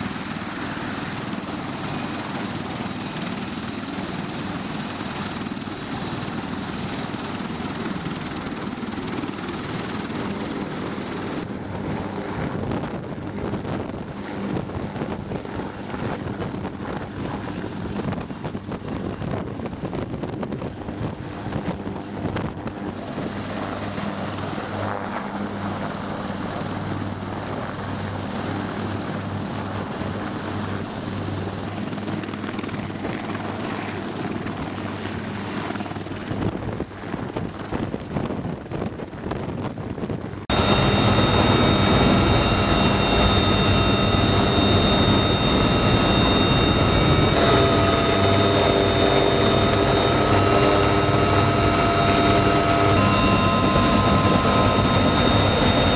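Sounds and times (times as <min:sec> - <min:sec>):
high whines in cockpit: 0:00.0 - 0:33.5, 0:40.4 - 0:55.9
helicopter rotor and turbine rumble: 0:00.0 - 0:55.9.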